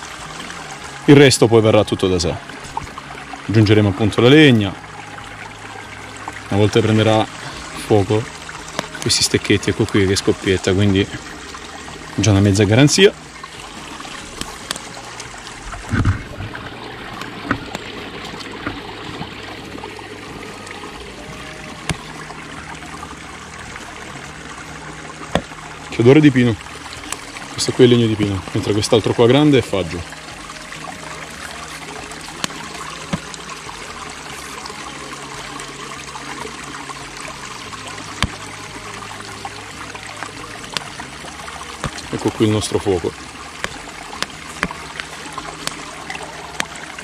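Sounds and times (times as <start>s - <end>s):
stream rushing: 0.0s - 47.0s.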